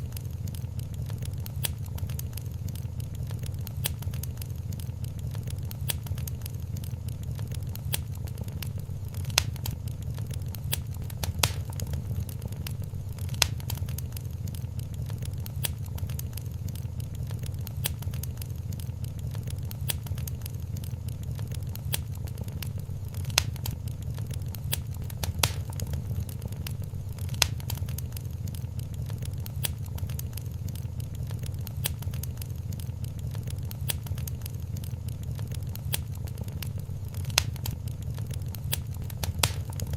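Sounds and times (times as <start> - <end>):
sharp pops from fire: 0.0 - 39.9
wood fire crackling: 0.0 - 39.9.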